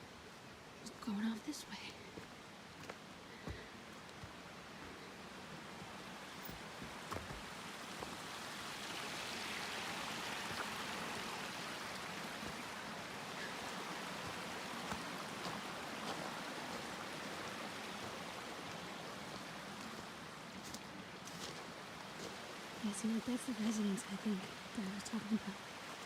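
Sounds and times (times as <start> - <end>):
stream water rushing: 2.0 - 26.0.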